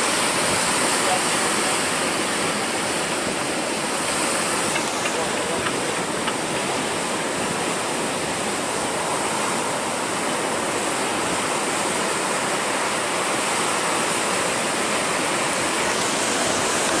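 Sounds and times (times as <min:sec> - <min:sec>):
heavy ocean surf rushing: 0:00.0 - 0:17.0.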